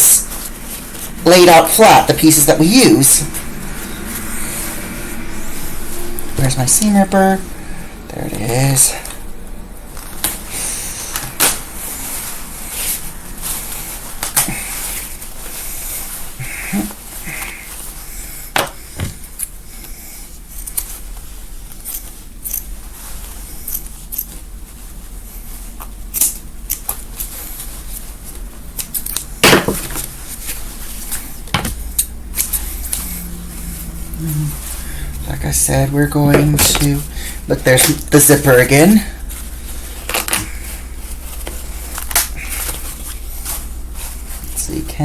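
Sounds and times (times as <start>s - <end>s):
fabric being handled: 0.2s - 7.4s, 9.2s - 45.0s.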